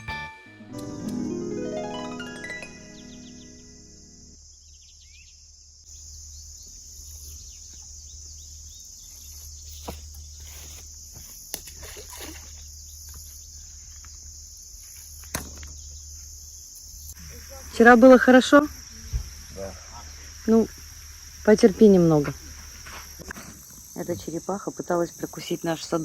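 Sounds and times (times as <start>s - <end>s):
crickets chirring: 1.0s - 26.0s.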